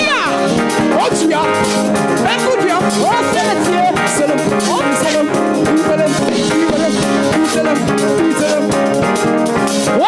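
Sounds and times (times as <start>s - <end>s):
band playing upbeat groove: 0.0s - 10.0s.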